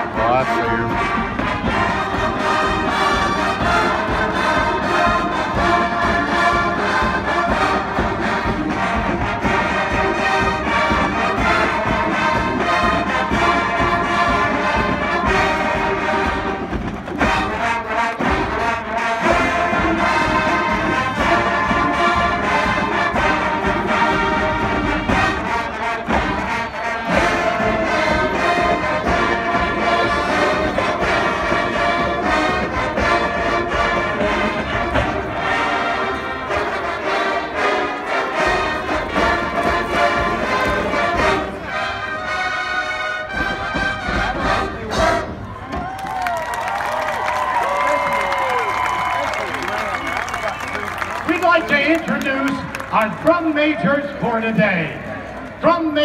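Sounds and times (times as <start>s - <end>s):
marching band playing: 0.0s - 56.0s.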